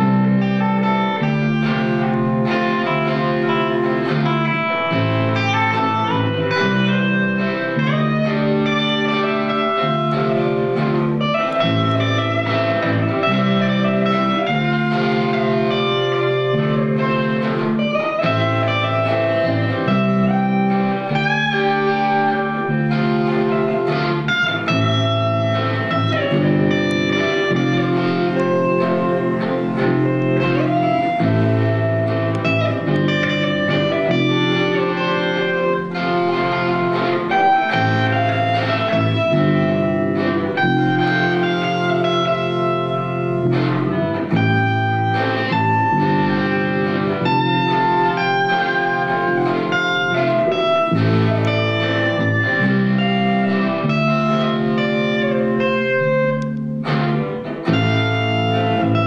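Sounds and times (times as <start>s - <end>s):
bass guitar line: 0.0s - 59.0s
electric guitar bending notes: 0.0s - 59.0s.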